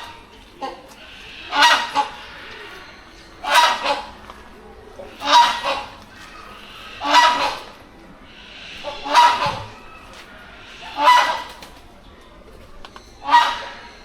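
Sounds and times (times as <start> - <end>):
large bird harsh call: 0.0 - 11.9.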